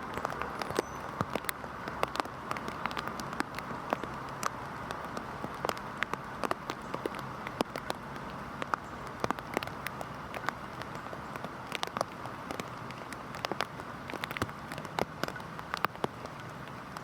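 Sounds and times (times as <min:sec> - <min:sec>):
heavy rain: 0:00.0 - 0:17.0
raindrops ticking sharply: 0:00.0 - 0:17.0.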